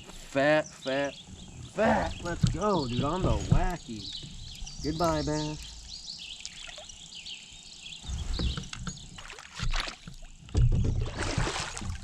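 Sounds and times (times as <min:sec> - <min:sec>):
birds chirping: 0:00.0 - 0:12.0
kayak moving on water: 0:01.2 - 0:07.1, 0:08.0 - 0:12.0.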